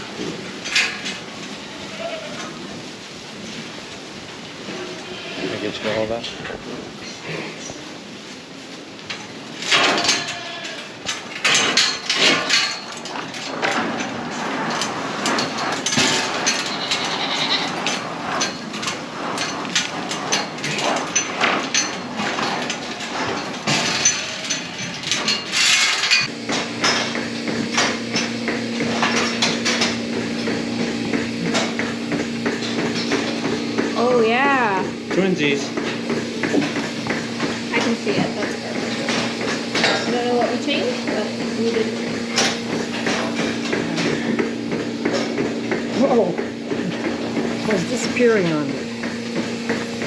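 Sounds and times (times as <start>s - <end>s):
steady electrical hum: 0.0s - 50.0s
hooves knocking against pen: 9.0s - 50.0s.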